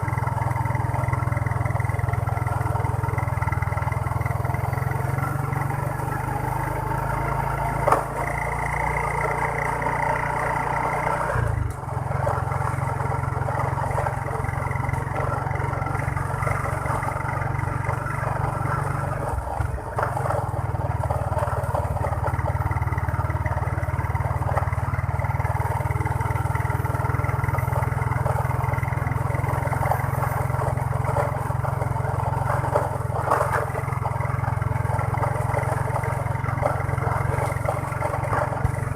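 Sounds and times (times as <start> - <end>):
motorbike engine running: 0.0 - 38.9
road and wind noise: 0.0 - 38.9.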